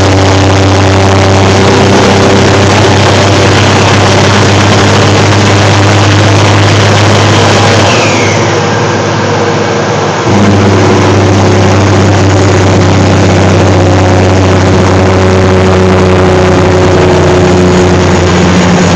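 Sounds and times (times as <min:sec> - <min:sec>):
diesel truck engine braking: 0:00.0 - 0:18.9.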